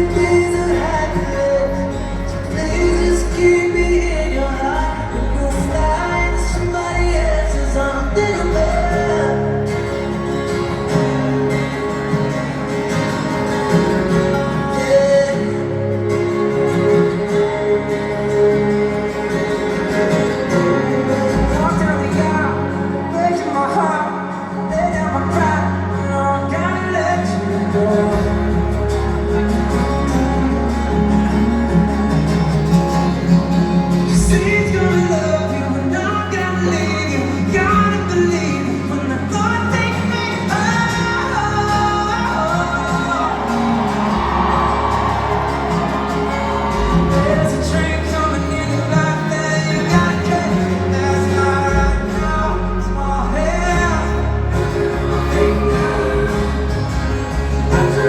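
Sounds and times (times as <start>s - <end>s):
acoustic guitar: 0.0s - 58.0s
live pop band: 0.0s - 58.0s
low bass: 0.0s - 58.0s
person singing: 0.0s - 58.0s.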